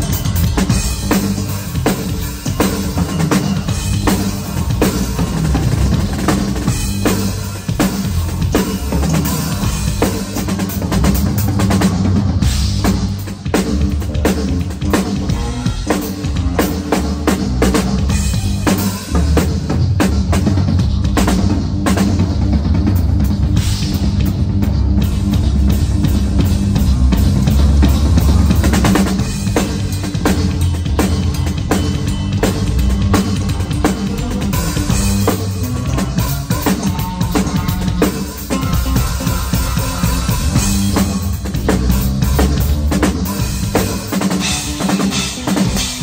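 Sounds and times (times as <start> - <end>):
drum kit playing: 0.0 - 46.0
electric bass guitar: 0.0 - 46.0.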